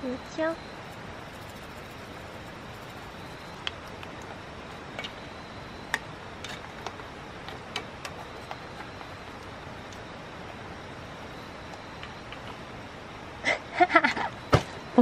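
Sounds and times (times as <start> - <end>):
steady hiss: 0.0 - 13.9.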